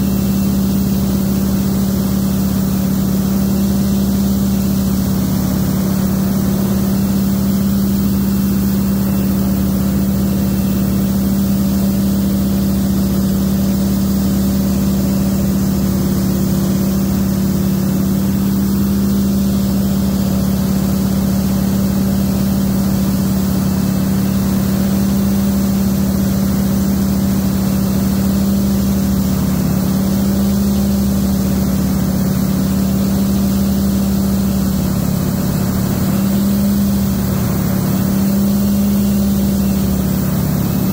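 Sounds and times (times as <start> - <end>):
radial aircraft engine droning: 0.0 - 40.9.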